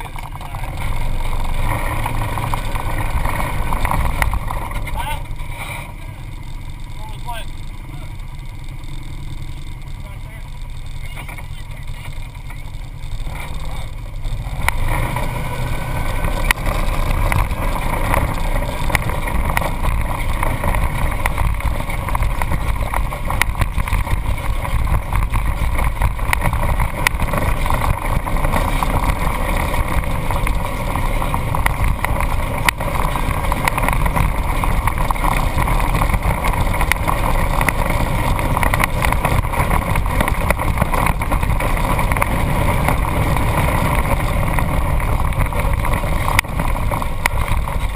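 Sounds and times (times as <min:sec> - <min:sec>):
off-road vehicle engine: 0:00.0 - 0:47.9
wind and road noise: 0:00.0 - 0:47.9.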